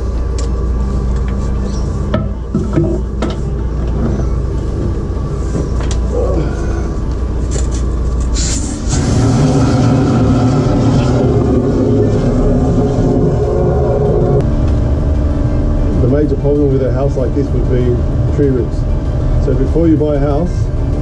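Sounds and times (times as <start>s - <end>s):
drain jetter engine running: 3.1s - 21.0s.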